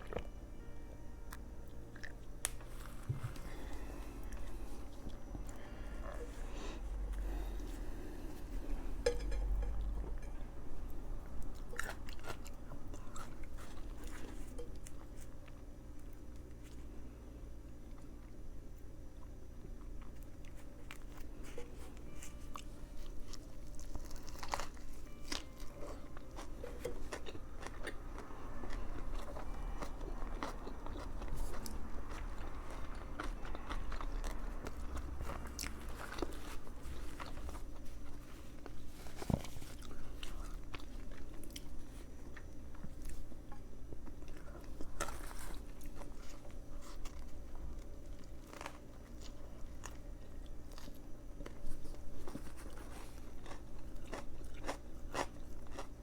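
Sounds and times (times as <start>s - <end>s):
person chewing a sandwich: 1.3s - 10.4s, 11.2s - 56.0s.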